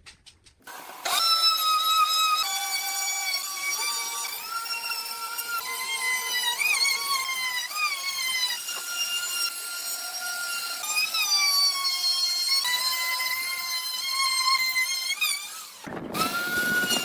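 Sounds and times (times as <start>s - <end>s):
power tool cutting wood: 0.6s - 17.0s.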